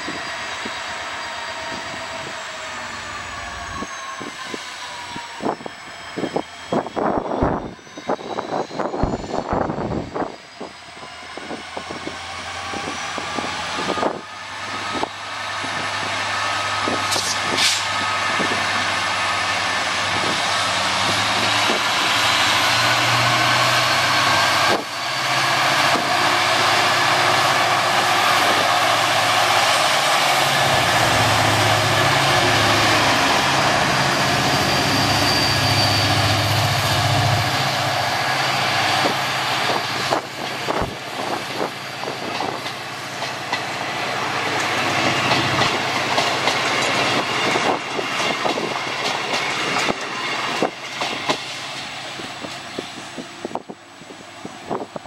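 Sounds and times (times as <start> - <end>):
whining tone: 0.0 - 51.4
diesel locomotive engine: 0.0 - 55.0.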